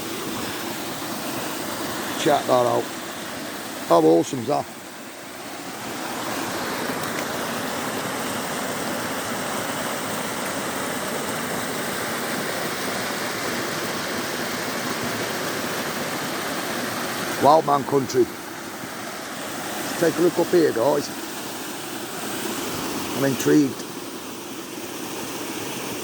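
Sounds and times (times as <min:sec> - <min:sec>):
waterfall pouring and splashing: 0:00.0 - 0:26.0.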